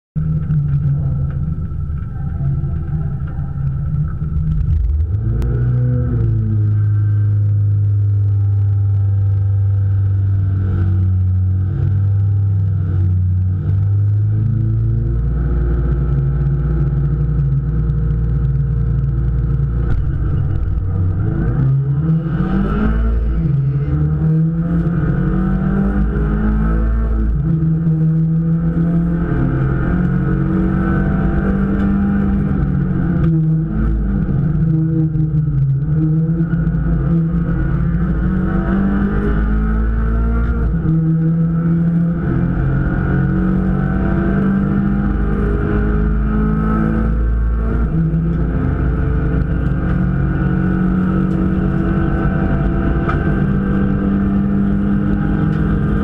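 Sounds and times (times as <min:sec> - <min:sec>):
race car engine accelerating: 0:00.2 - 0:56.0
road and cabin noise: 0:00.2 - 0:56.0.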